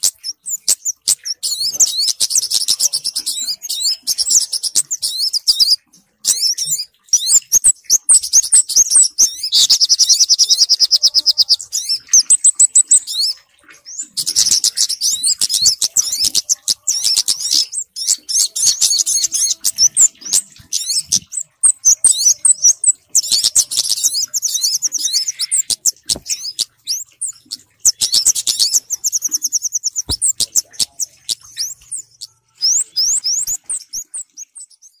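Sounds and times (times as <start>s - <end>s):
small birds chirping and trilling: 0.0s - 35.0s.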